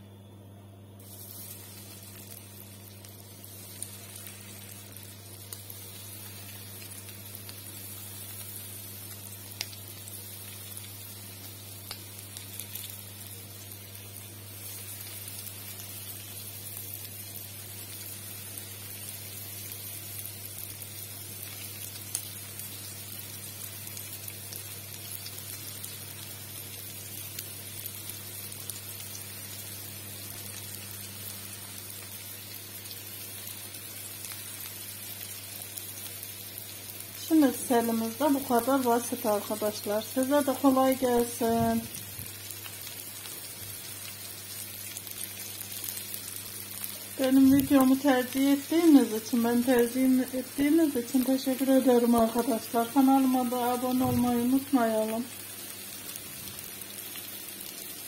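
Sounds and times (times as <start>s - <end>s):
chicken sizzling in frying oil: 1.0s - 58.0s.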